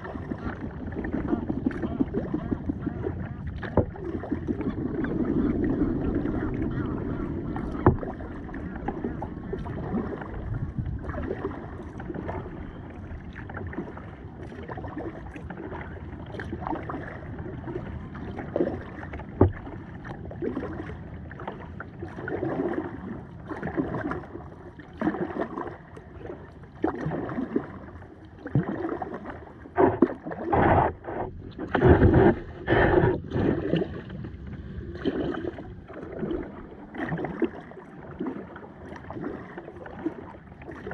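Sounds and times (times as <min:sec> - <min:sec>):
paddle splashing in water: 0:00.0 - 0:40.9.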